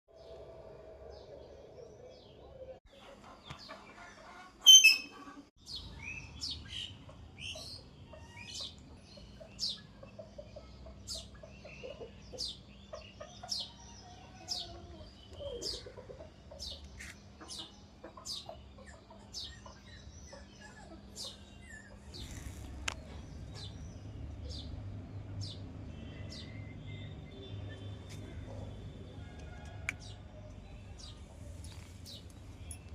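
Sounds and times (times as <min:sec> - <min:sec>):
birds chirping: 0:00.1 - 0:32.9.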